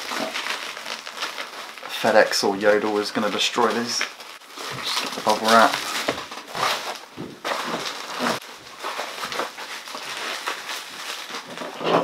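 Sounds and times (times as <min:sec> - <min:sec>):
bubble wrap rustling: 0:00.0 - 0:12.0.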